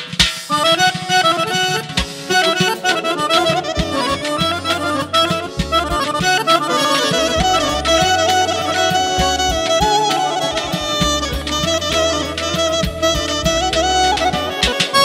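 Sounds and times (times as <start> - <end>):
drum: 0.0 - 15.0
button accordion folk melody: 0.5 - 15.0
clarinet: 0.5 - 15.0.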